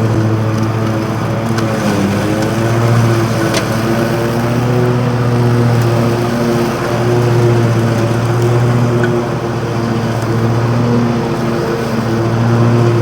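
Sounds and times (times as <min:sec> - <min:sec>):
lawn mower cutting grass: 0:00.0 - 0:13.0.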